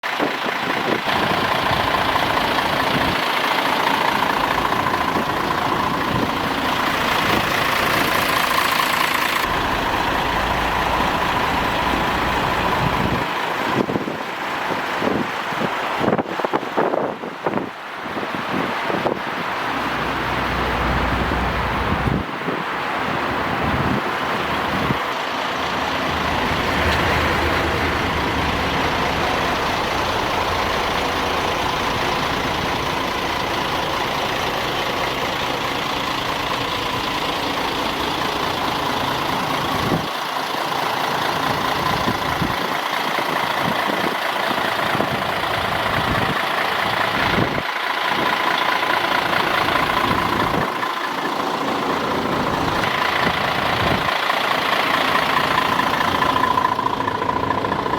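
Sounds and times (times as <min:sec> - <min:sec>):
truck diesel engine running: 0:00.0 - 0:22.4, 0:23.0 - 0:57.9.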